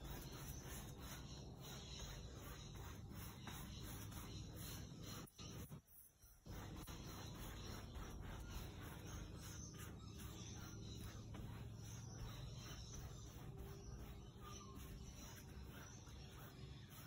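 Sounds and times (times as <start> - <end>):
paintbrush scrubbing on canvas: 0.0 - 17.0.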